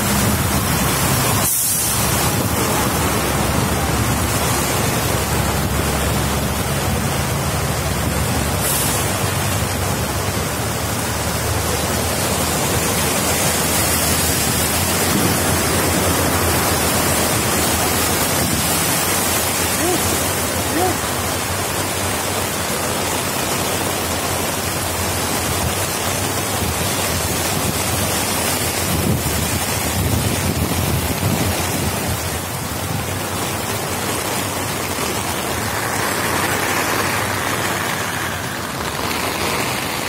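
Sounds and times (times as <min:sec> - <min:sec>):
heavy rain: 0:00.0 - 0:40.0
rushing floodwater: 0:00.0 - 0:40.0.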